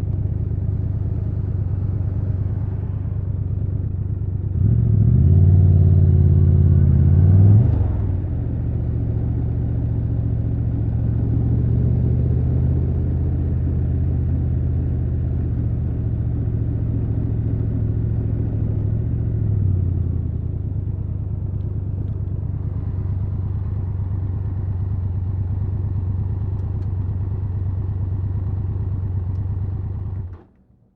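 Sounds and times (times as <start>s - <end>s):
motorcycle engine running at low revs: 0.0s - 30.6s.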